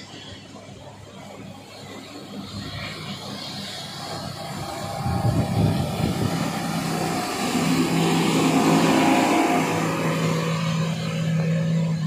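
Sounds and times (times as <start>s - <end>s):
motorboat engines droning: 0.0s - 12.0s
wind and water rushing: 0.0s - 12.0s.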